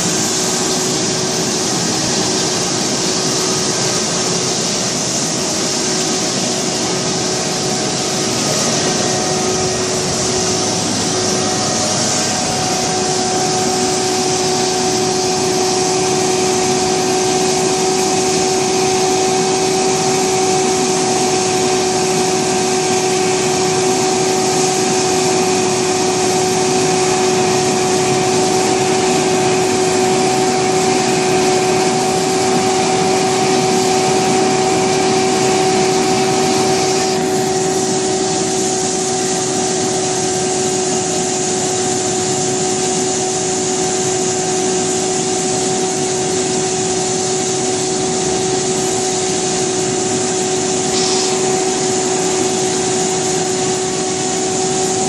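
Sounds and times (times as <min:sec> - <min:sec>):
wire saw cutting concrete: 0:00.0 - 0:55.0.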